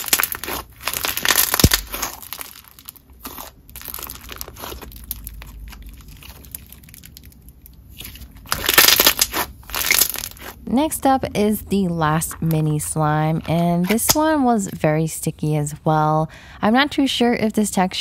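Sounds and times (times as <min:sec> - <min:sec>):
slime beads crunching: 0:00.0 - 0:14.8.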